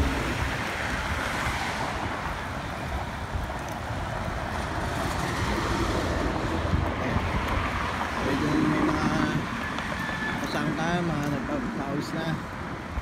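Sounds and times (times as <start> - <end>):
wind noise on microphone: 0.0 - 11.1
road traffic rumble: 0.0 - 13.0.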